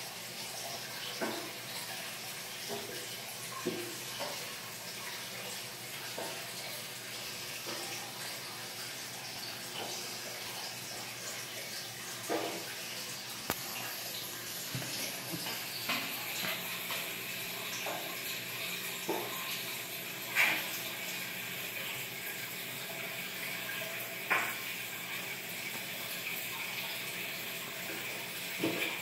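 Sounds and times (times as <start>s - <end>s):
aquarium filter flow: 0.0s - 29.0s.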